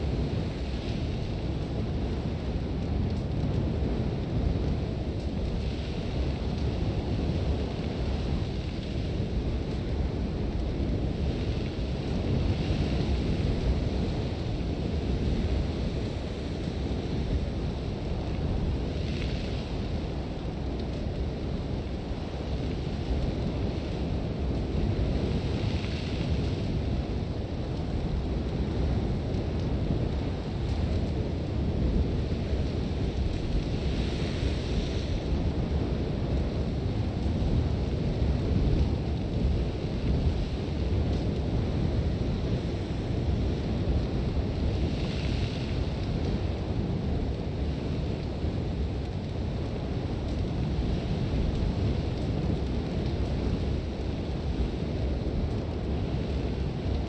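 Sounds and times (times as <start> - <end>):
sandstorm wind rumbling: 0.0 - 57.0.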